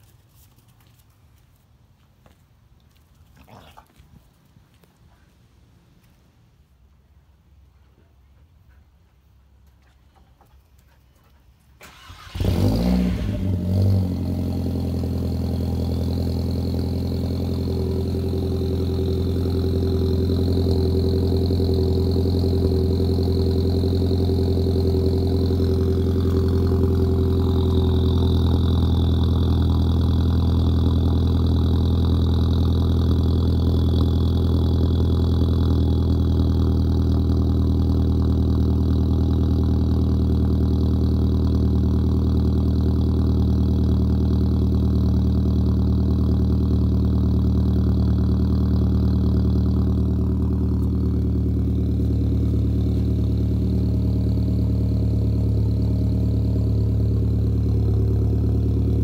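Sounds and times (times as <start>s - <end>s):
car engine starting and idling: 11.7s - 59.0s.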